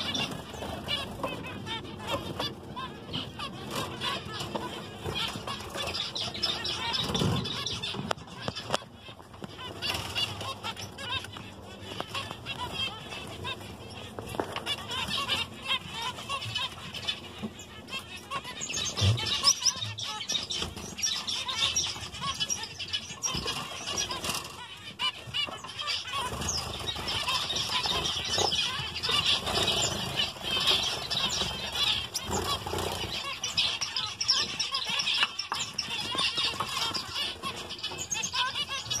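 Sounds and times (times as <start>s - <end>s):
finches chirping: 0.0s - 39.0s.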